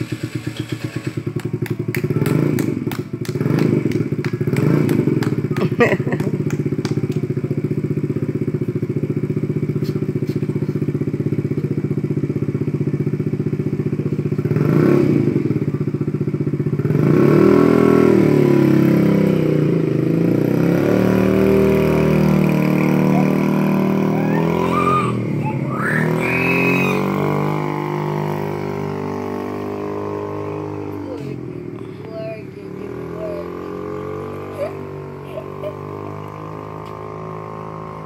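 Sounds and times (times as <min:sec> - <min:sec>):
scooter engine idling and revving: 0:00.0 - 0:38.0.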